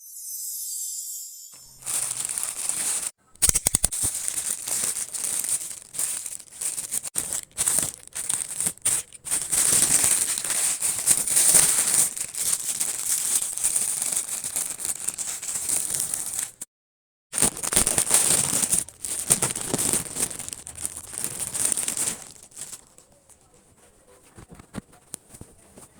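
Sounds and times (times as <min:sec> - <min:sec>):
packaging crinkling: 0:01.6 - 0:16.6, 0:17.4 - 0:25.9.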